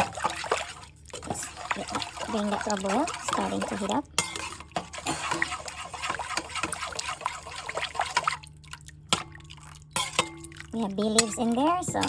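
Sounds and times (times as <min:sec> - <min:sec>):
broth bubbling in a pot: 0:00.0 - 0:12.0.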